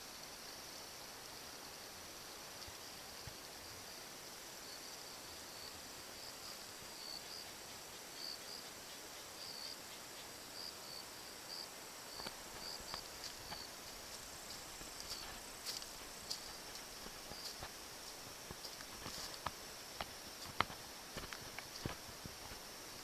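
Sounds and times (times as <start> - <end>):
insect chirps: 0.0 - 23.0
crickets trilling: 0.1 - 23.0.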